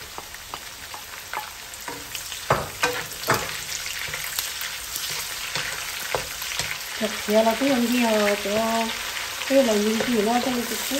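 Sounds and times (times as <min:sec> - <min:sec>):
food sizzling in a pan: 0:00.0 - 0:10.9.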